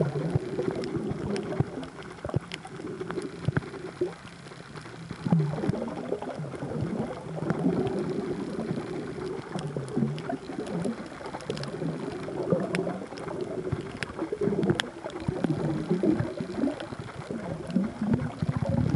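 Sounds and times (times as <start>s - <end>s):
muffled underwater gurgling: 0.0s - 18.9s.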